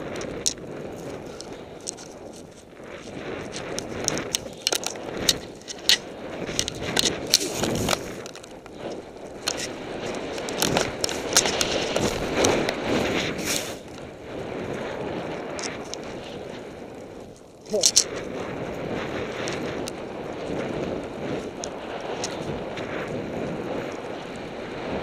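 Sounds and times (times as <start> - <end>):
sharp clicks and rattles: 0.0 - 13.0, 15.4 - 22.9
snowboard scraping hiss over snow: 0.0 - 25.0.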